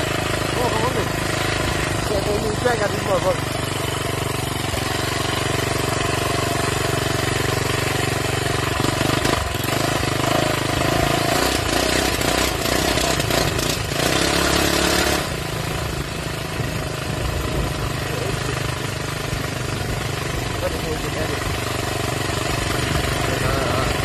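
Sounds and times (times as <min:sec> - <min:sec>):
minibike engine running: 0:00.0 - 0:24.0.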